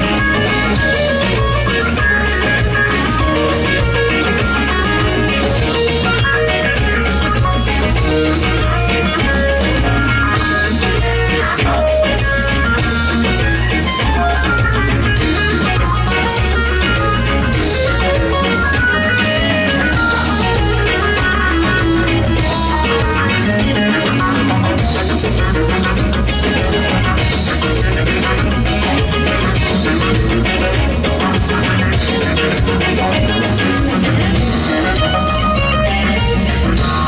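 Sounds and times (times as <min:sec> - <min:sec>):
bass guitar: 0:00.0 - 0:37.0
drum kit: 0:00.0 - 0:37.0
electric guitar lines: 0:00.0 - 0:37.0.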